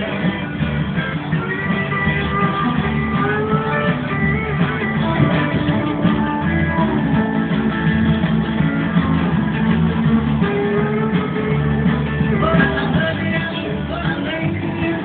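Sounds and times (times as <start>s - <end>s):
guitar-led music: 0.0s - 15.0s.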